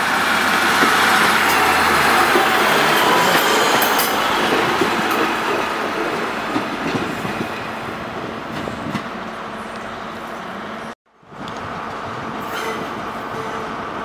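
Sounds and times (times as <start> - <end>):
train passing rumbling and clicking: 0.0 - 14.0.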